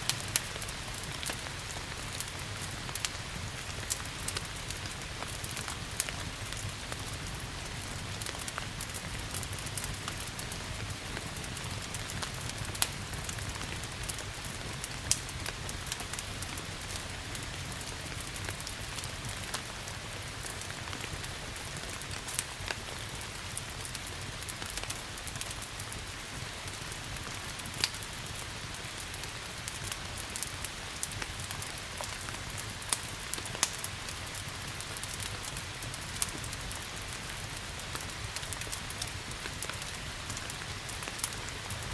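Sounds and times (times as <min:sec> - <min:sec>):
steady rain hiss: 0:00.0 - 0:41.9
wood fire crackling and popping: 0:00.0 - 0:41.9.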